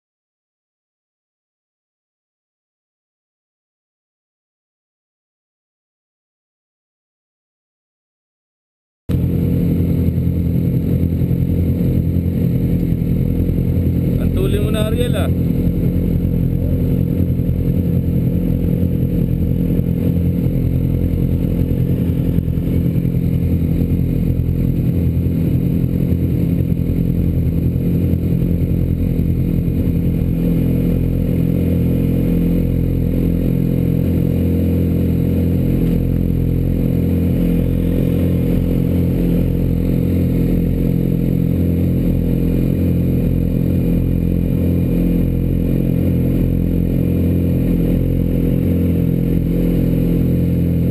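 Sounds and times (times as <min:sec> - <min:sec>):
motorcycle engines idling: 0:09.1 - 0:50.9.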